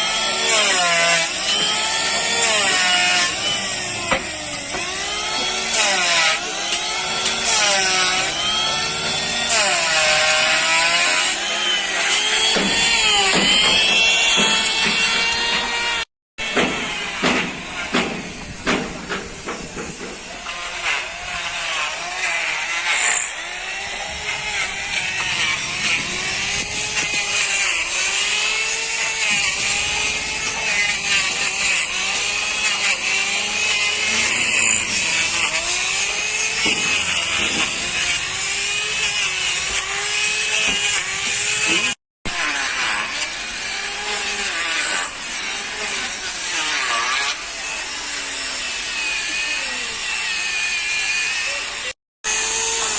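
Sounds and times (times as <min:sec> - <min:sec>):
electric power tool running: 0:00.0 - 0:18.2, 0:19.6 - 0:52.9.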